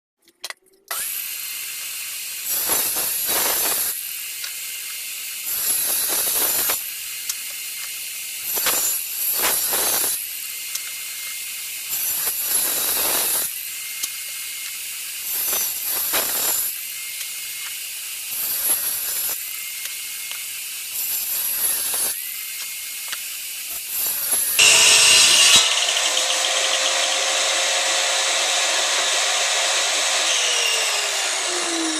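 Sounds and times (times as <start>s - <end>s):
power saw cutting wood: 0.9s - 31.9s.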